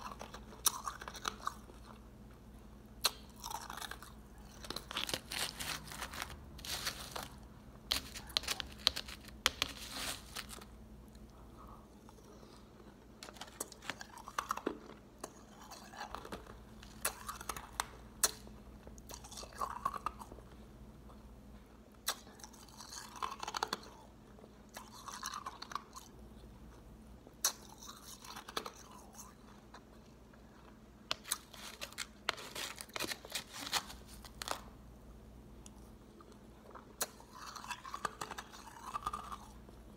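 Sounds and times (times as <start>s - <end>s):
crushed ice being chewed: 0.0s - 2.1s, 3.0s - 11.3s, 12.0s - 20.6s, 22.1s - 26.8s, 27.4s - 34.6s, 35.6s - 39.9s.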